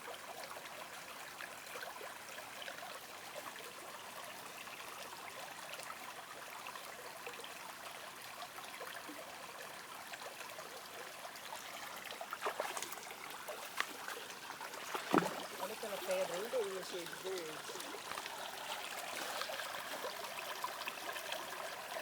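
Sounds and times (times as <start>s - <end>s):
spring water trickling: 0.6s - 22.0s.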